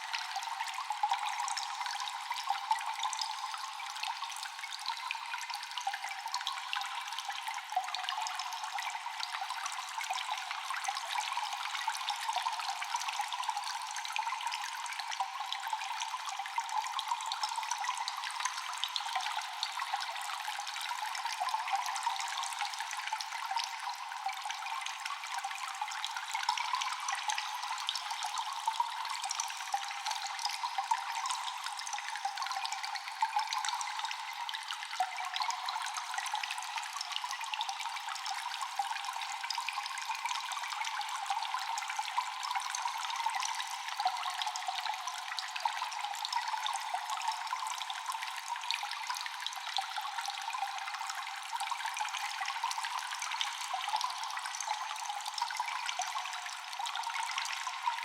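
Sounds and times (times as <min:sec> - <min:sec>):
water dripping with echo: 0:00.0 - 0:58.0
water trickling: 0:00.0 - 0:58.0.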